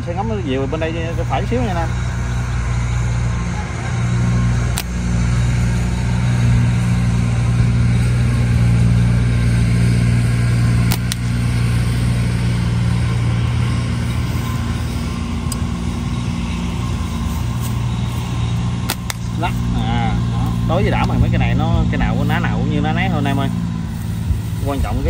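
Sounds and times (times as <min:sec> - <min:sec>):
engine idling hum: 0:00.0 - 0:25.0.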